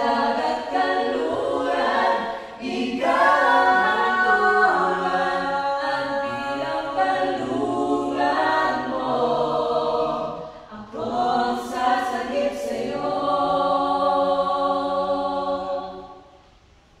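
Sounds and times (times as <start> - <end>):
group singing a cappella: 0.0 - 16.6.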